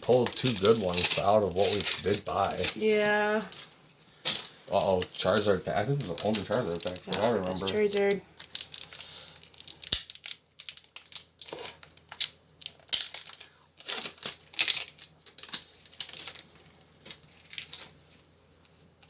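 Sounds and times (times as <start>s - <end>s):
foil wrapper crinkling and tearing: 0.0s - 3.5s, 4.3s - 19.0s.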